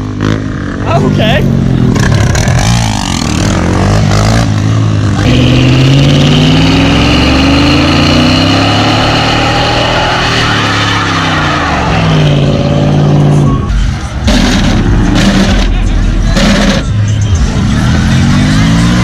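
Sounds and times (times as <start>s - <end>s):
truck engine revving high: 0.0s - 19.0s.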